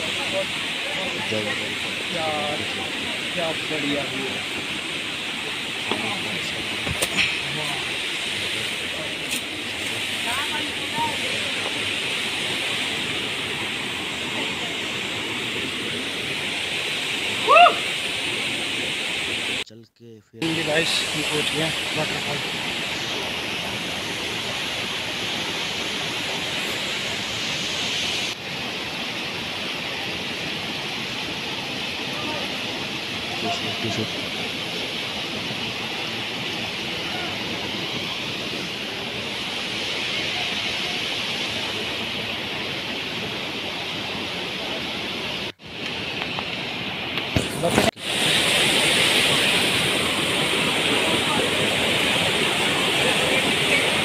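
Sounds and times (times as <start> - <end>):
waterfall and stream rushing: 0.0 - 19.6, 20.4 - 54.0.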